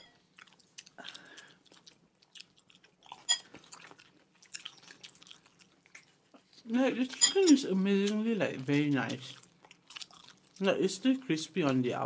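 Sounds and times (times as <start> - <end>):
chewing crispy chicken: 0.2 - 7.2, 8.0 - 11.9.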